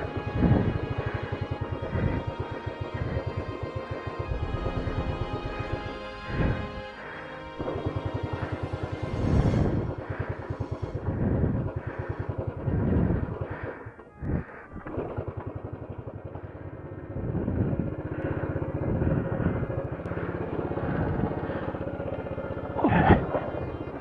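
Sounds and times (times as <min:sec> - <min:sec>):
motorcycle engine idling unevenly: 0:00.0 - 0:24.0.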